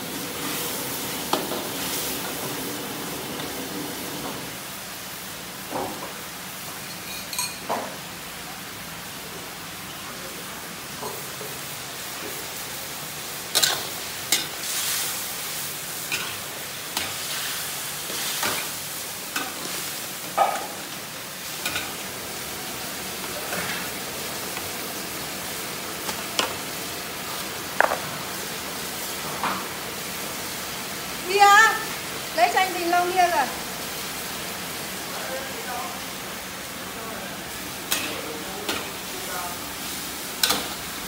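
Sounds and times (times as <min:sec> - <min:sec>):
sizzling hiss of simmering pot: 0:00.0 - 0:41.0.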